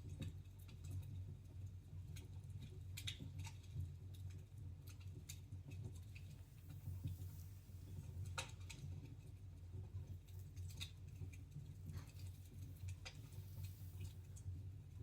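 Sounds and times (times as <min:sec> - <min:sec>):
low steady hum: 0:00.0 - 0:15.0
wood fire crackling: 0:00.1 - 0:15.0.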